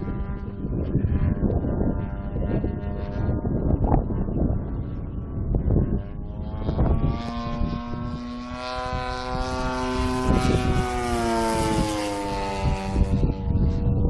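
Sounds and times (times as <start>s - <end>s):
model plane engine and propeller drone: 0.0s - 14.0s.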